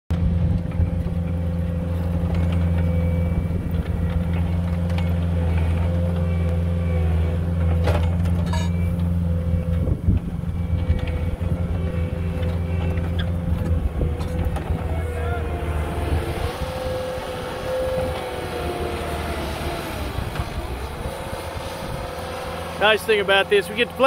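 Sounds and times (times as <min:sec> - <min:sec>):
diesel engine running at high revs: 0:00.1 - 0:24.0.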